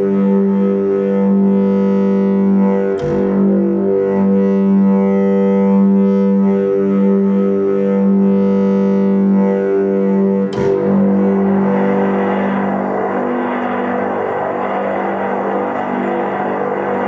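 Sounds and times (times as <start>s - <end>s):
low sustained drone: 0.0s - 17.0s.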